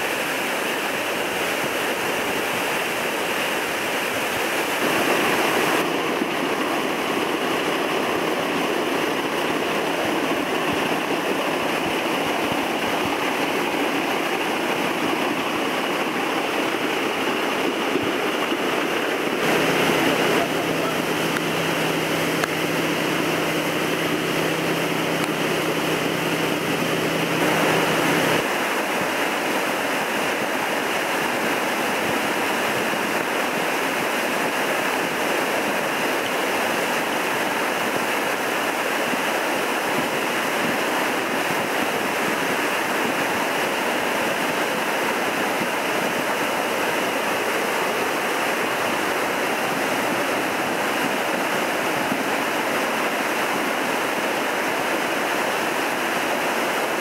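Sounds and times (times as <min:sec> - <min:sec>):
whitewater rushing: 0:00.0 - 0:57.0.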